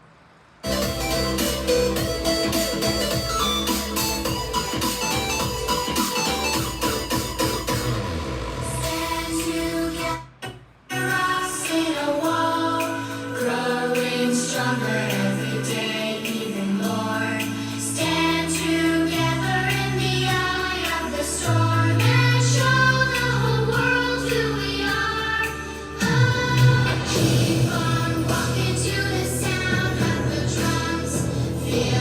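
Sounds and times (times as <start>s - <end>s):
choral song over chords and bass: 0.6s - 10.2s, 10.9s - 32.0s.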